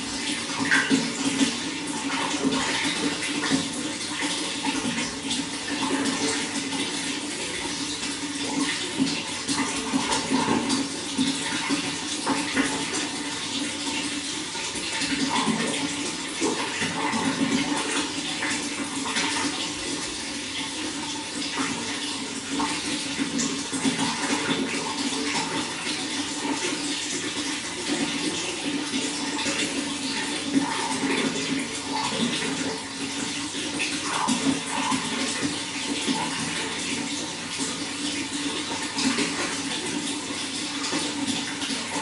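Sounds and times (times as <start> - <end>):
water running: 0.0 - 42.0.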